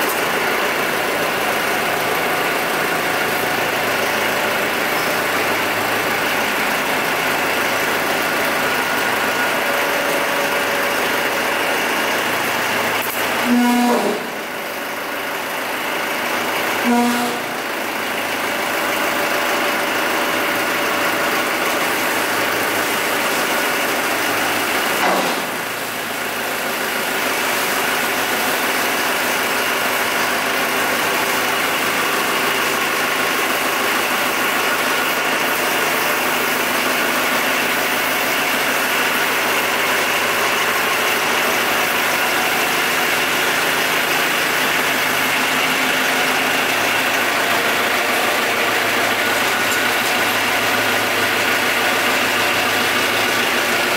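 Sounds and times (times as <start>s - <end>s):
forklift engine running: 0.0s - 53.9s.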